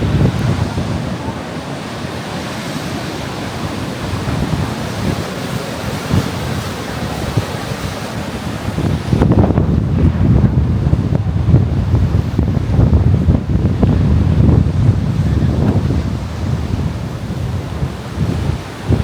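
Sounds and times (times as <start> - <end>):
sea surf: 0.0 - 19.0
strong wind on microphone: 0.0 - 19.0.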